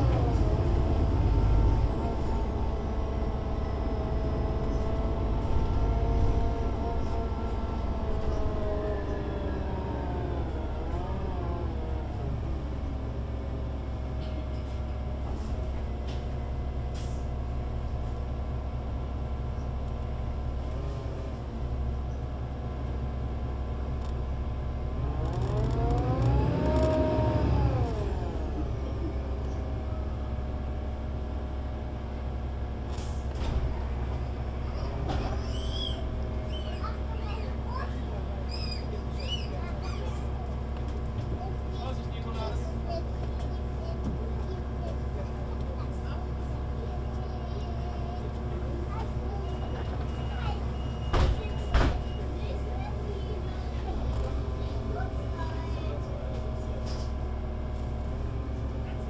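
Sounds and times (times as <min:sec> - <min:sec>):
bus engine and gearbox whine: 0:00.0 - 0:59.0.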